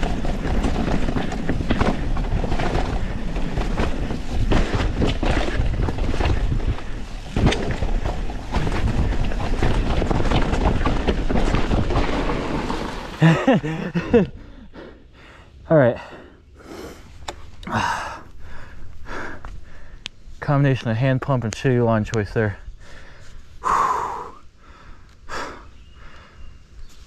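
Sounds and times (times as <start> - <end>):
bike tyres and frame rattling: 0.0 - 16.4, 17.0 - 27.0.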